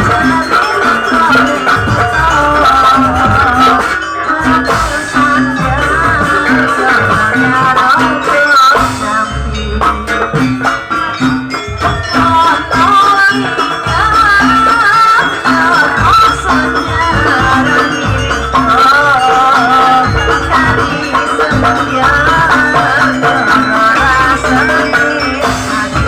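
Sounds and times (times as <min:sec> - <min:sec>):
dense drumming: 0:00.0 - 0:26.0
wavering lead melody: 0:00.0 - 0:26.0.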